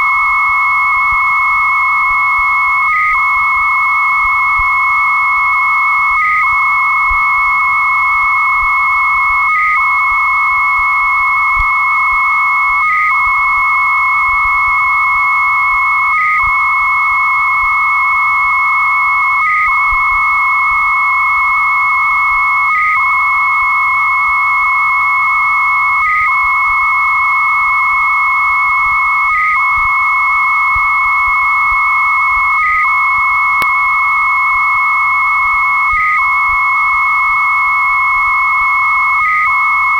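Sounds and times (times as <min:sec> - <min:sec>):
buzzing modem data tone: 0:00.0 - 0:39.9
modem high carrier tone: 0:00.0 - 0:39.9.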